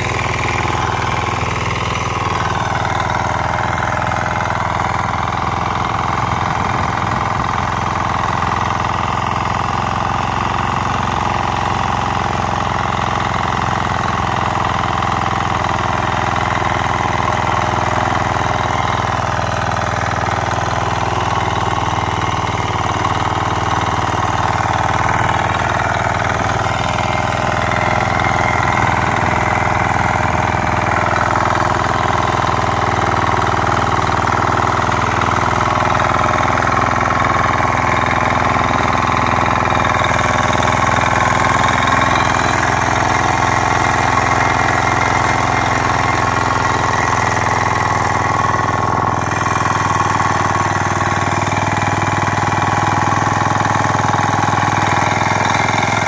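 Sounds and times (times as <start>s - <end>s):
power tiller engine running: 0.0s - 56.0s
tines churning soil: 0.0s - 56.0s.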